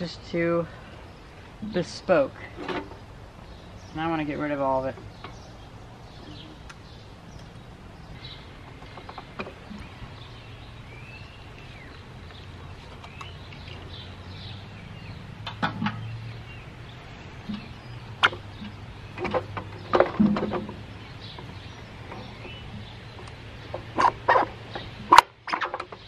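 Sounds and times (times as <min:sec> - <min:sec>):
birds calling: 0:00.0 - 0:26.0
low steady hum: 0:00.0 - 0:26.0.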